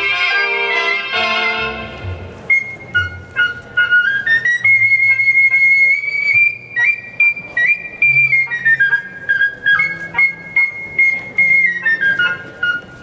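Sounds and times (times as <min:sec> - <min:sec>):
flute melody: 0:00.0 - 0:13.0.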